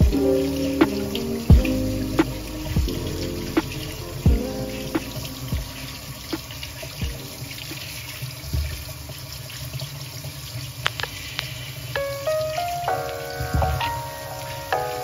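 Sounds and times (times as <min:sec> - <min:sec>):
faucet running water: 0:00.0 - 0:15.0.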